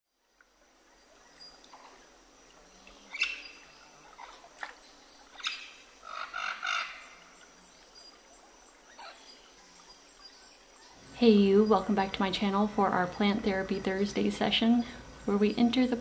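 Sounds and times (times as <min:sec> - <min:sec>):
faint steady hiss: 0:00.1 - 0:16.0
birds chirping: 0:00.3 - 0:16.0.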